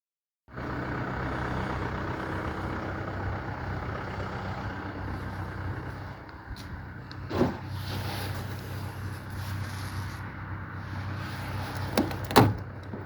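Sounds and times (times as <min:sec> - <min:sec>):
diesel engine running: 0:00.5 - 0:13.0.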